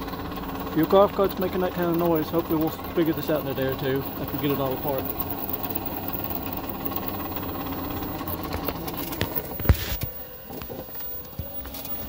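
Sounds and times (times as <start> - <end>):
golf cart mechanical drone: 0.0 - 12.0.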